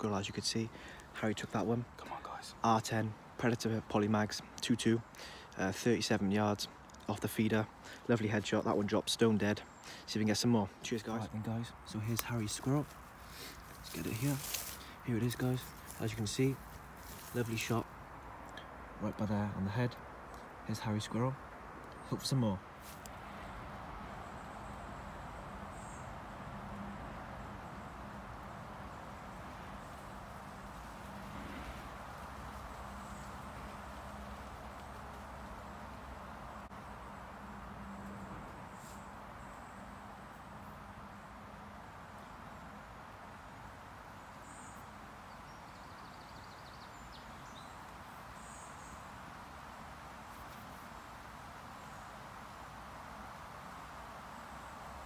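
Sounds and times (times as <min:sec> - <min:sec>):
background hiss: 0:00.0 - 0:55.0.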